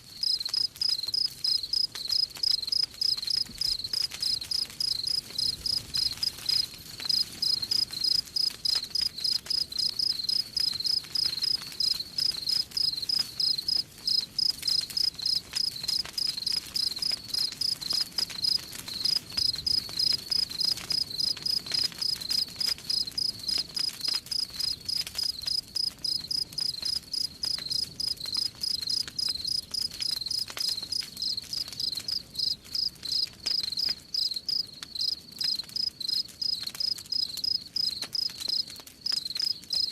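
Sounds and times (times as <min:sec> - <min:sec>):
faint campfire crackling: 0:00.0 - 0:39.9
crickets chirping: 0:00.2 - 0:39.9.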